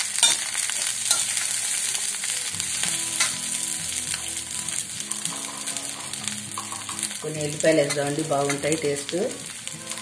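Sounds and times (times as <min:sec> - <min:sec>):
leaves sizzling in hot oil: 0:00.0 - 0:10.0.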